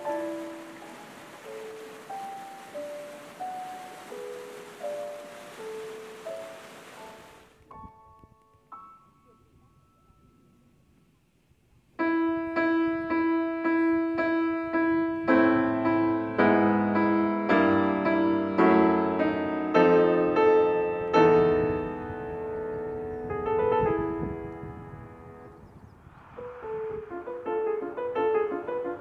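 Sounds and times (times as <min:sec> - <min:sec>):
piano playing repeated chords: 0:00.0 - 0:10.4, 0:12.0 - 0:25.6, 0:26.4 - 0:29.0.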